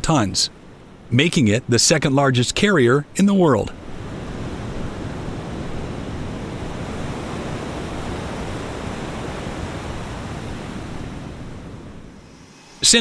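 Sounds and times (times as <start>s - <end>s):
wind and sea roar: 0.0s - 13.0s.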